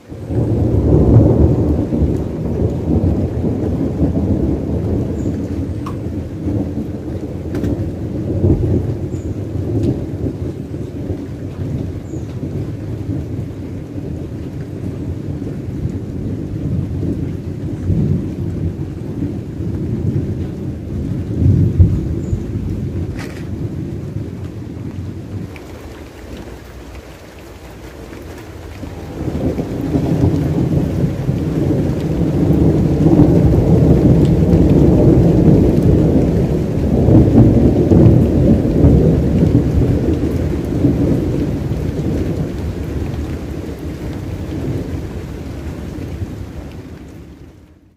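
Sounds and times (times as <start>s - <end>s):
rain: 0.0s - 47.9s
thunder rumbling: 0.0s - 47.9s.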